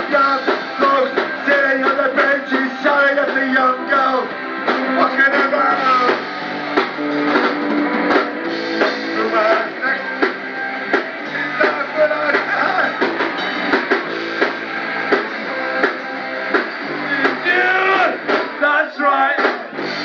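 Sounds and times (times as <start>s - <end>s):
drum kit beat: 0.0s - 20.0s
electric guitars: 0.0s - 20.0s.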